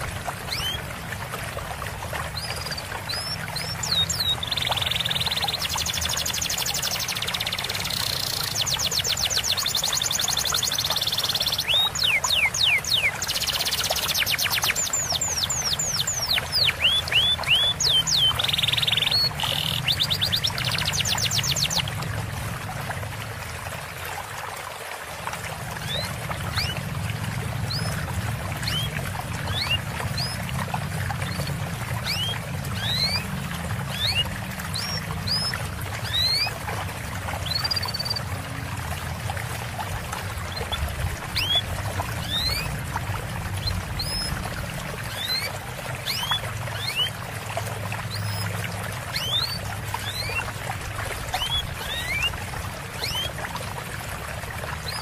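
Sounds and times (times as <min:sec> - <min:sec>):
songbirds singing: 0:00.0 - 0:00.9, 0:02.1 - 0:22.3, 0:25.7 - 0:53.6, 0:54.6 - 0:55.0
trickling water: 0:00.0 - 0:55.0.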